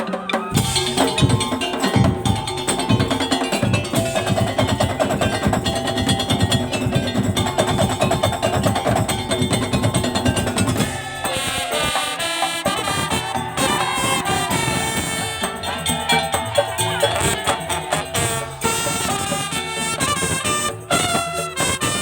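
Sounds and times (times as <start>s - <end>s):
fast percussion ensemble drumming: 0.0s - 22.0s
melodic line: 0.5s - 19.7s.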